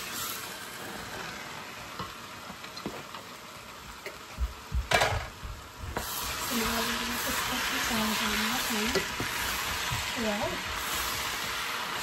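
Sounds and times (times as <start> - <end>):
frying in hot oil with pops: 0.0 - 12.0.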